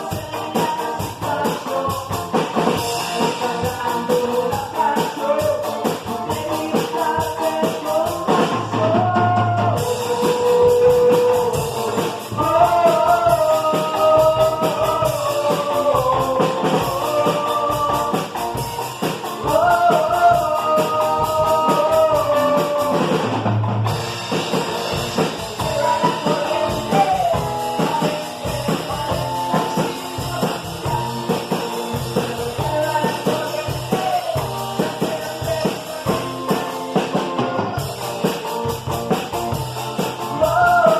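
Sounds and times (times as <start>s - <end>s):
person singing: 0.0s - 23.5s, 24.9s - 40.9s
drum kit: 0.0s - 40.9s
guitar: 0.0s - 40.9s.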